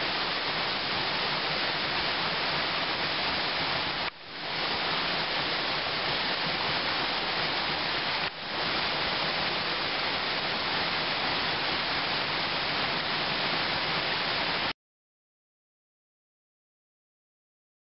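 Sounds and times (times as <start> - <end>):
waterfall rushing: 0.0 - 14.7.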